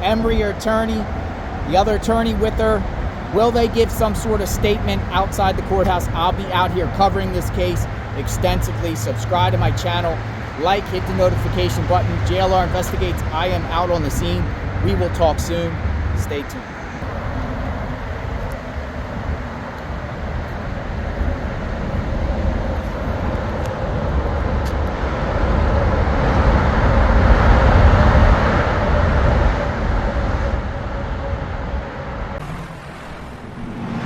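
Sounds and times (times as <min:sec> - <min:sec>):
vehicle passing: 0:00.0 - 0:34.0.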